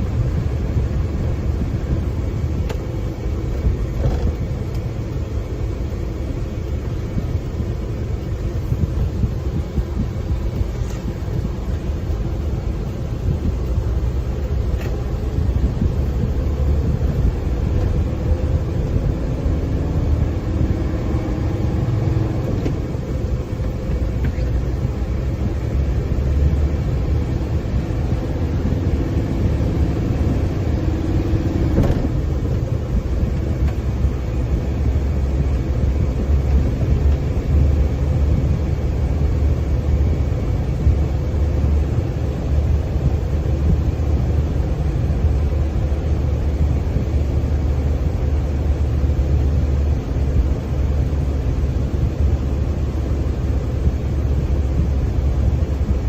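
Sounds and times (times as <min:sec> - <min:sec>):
diesel truck engine rumble: 0:00.0 - 0:56.0.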